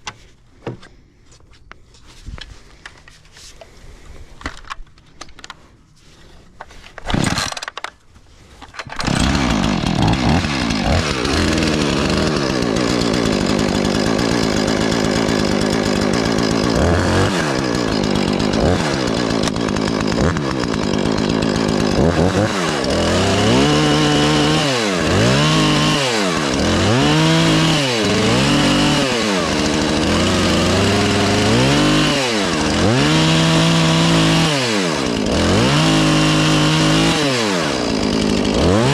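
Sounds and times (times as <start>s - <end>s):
chainsaw cutting wood: 6.2s - 38.9s.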